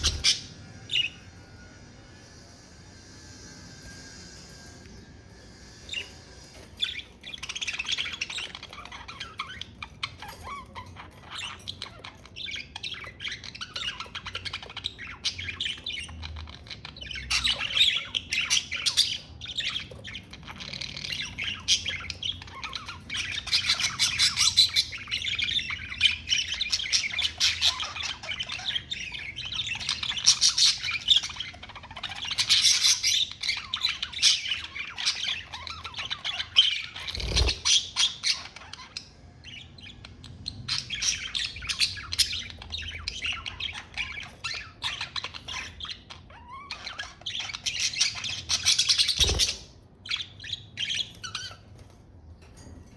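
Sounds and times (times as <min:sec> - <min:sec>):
budgerigars chattering and warbling: 0:00.0 - 0:01.7, 0:04.0 - 0:52.9.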